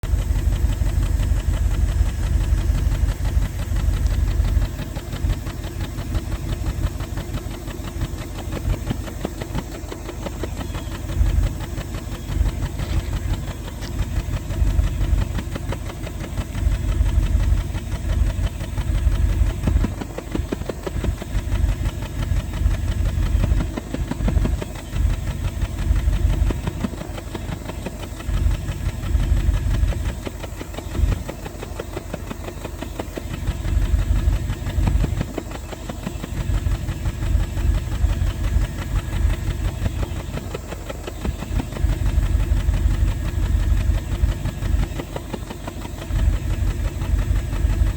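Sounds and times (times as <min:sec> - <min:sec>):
car engine exhaust idling with popping: 0:00.0 - 0:47.9.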